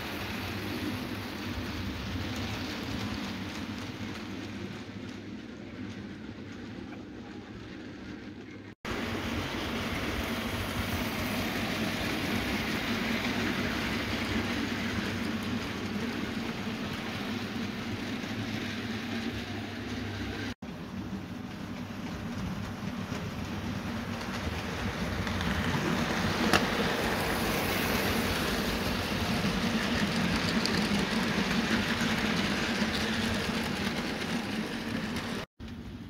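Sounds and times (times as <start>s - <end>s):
model train whirring on track: 0.0s - 36.0s.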